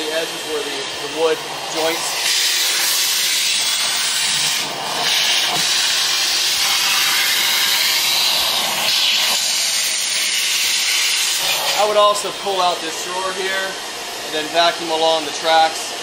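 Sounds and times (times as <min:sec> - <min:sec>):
vacuum cleaner air hissing: 0:00.0 - 0:15.6.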